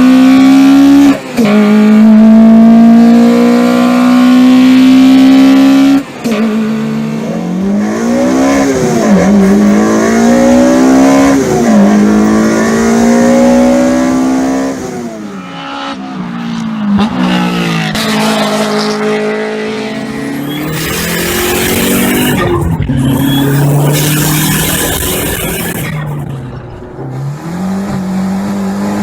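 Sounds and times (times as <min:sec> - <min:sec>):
car engine at high revs: 0:00.0 - 0:29.0.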